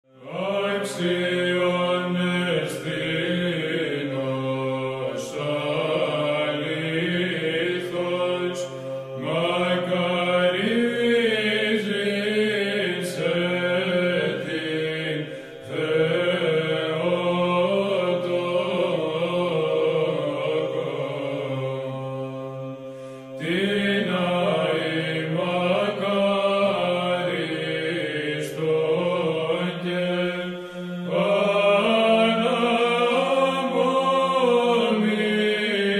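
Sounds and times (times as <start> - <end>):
held vocal drone: 0.0 - 35.9
voices chanting slow melody: 0.1 - 35.9.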